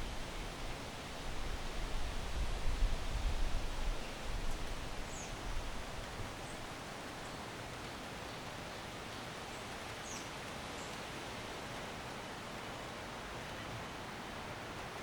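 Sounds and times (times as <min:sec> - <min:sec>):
wind in trees: 0:00.0 - 0:15.0.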